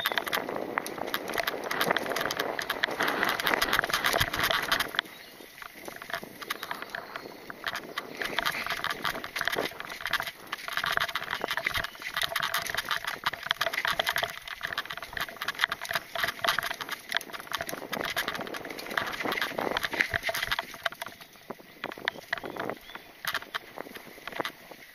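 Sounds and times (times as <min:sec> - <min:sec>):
mountain bike rattling over dirt: 0:00.0 - 0:24.9.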